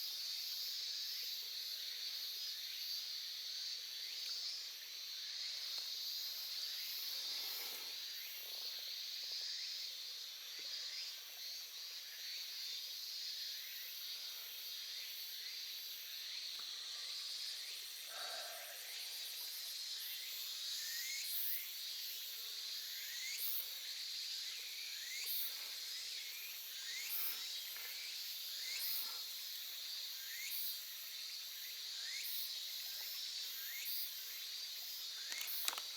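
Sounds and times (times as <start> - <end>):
high insect chorus: 0.0 - 35.9.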